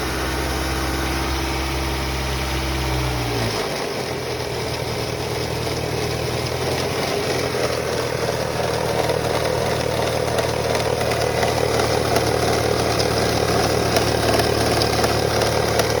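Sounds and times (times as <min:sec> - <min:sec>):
car engine running: 0:00.0 - 0:16.0
engine rattling: 0:00.0 - 0:16.0.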